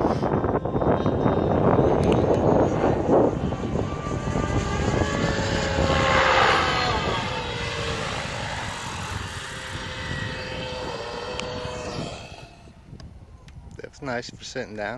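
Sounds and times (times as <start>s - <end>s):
model helicopter engine whining: 0.0s - 13.2s.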